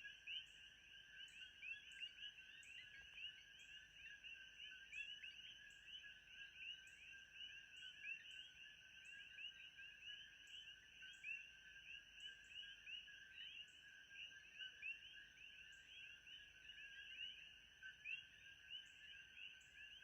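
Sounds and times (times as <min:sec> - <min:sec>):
frogs chirping in chorus: 0:00.0 - 0:20.0.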